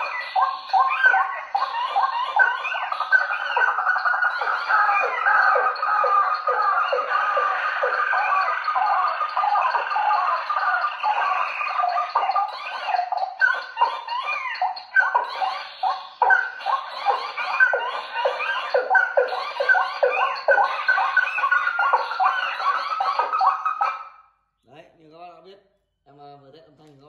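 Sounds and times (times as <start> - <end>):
bird calls over loudspeakers: 0.0 - 24.2.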